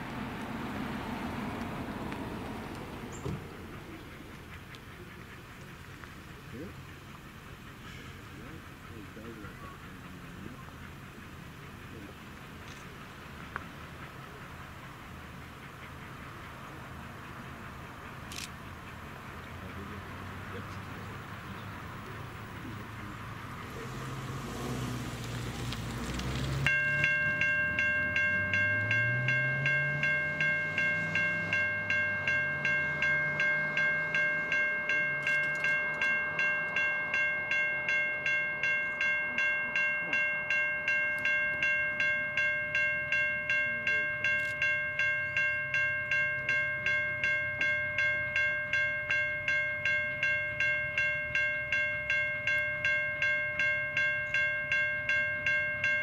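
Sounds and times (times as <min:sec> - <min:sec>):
level crossing warning bell: 0:00.0 - 0:25.2, 0:26.6 - 0:56.0.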